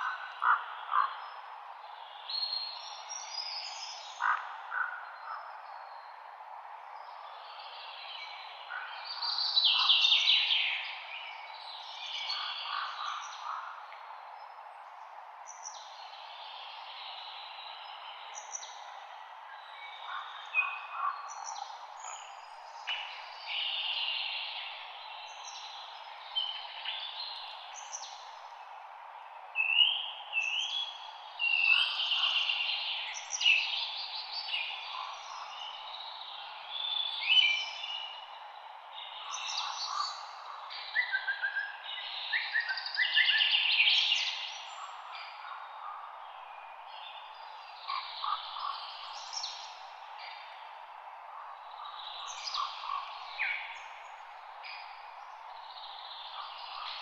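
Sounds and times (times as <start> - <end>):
light wind in leaves: 0.0 - 57.0
songbirds singing and chirping: 0.0 - 57.0.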